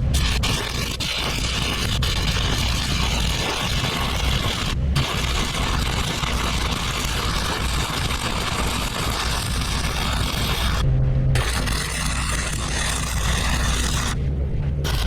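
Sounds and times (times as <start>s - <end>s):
welding arc crackling and hissing: 0.0s - 10.8s, 11.4s - 14.2s
low steady rumble: 0.0s - 15.0s.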